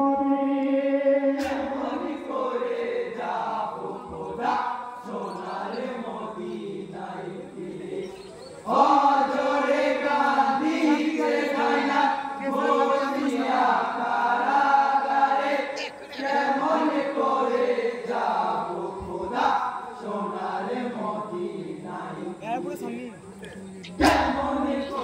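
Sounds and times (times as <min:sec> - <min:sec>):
men singing in chorus: 0:00.0 - 0:25.0.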